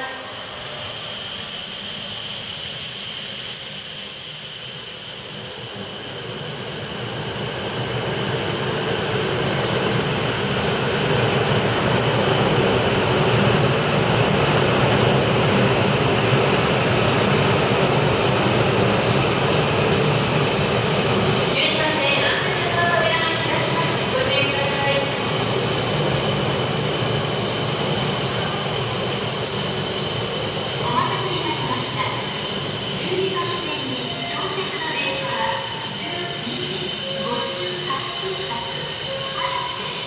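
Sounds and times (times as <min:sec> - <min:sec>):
high-pitched train whine: 0:00.0 - 0:40.0
train rushing: 0:05.3 - 0:40.0.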